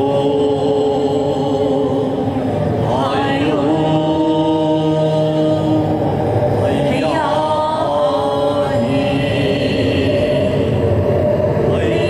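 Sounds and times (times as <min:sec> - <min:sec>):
voices chanting held notes: 0:00.0 - 0:12.0.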